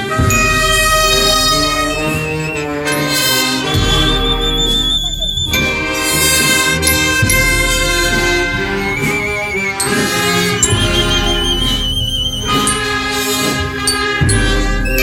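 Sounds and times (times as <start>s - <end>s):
brass band playing funeral march: 0.0s - 15.0s.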